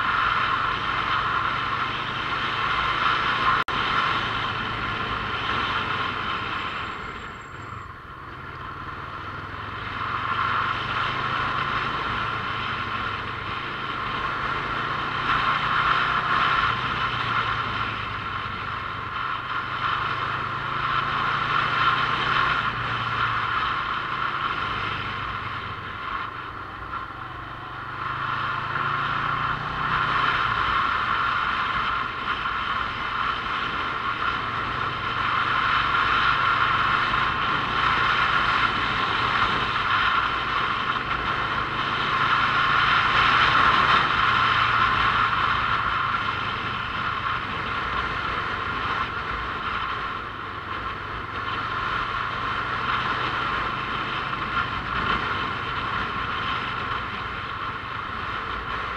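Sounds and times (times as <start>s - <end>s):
motorcycle engine: 0.0s - 58.9s.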